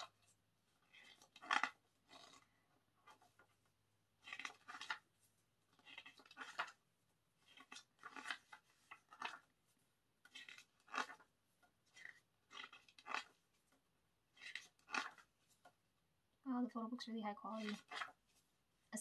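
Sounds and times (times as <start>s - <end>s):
photo book pages turning: 0.0s - 15.9s, 17.5s - 18.9s.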